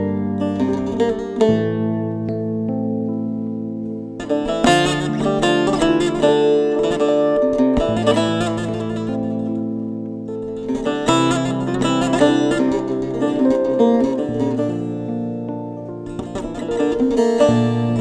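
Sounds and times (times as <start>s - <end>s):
plucked string music: 0.0s - 18.0s.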